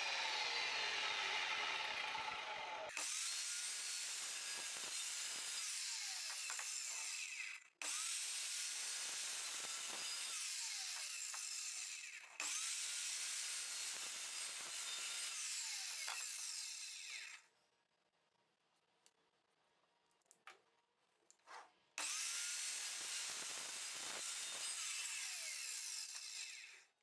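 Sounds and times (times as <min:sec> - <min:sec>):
mitre saw cutting board: 0:00.0 - 0:17.4, 0:22.0 - 0:26.8.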